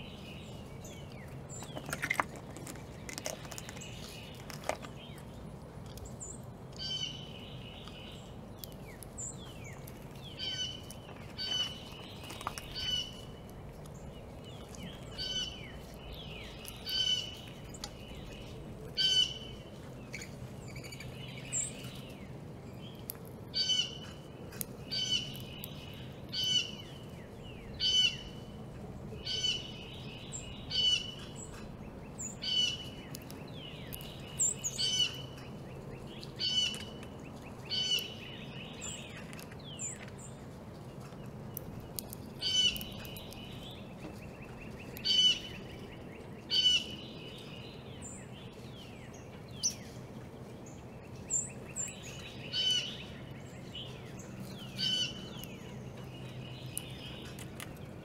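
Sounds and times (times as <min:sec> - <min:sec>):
birds chirping: 0:00.0 - 0:58.0
faint outdoor background: 0:00.0 - 0:58.0.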